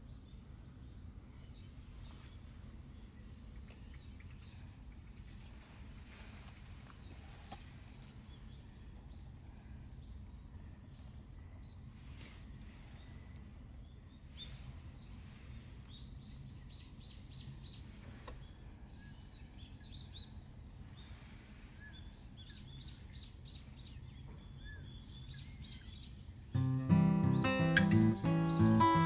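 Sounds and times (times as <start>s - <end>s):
faint low outdoor background: 0.0s - 29.0s
small birds chirping: 0.0s - 29.0s.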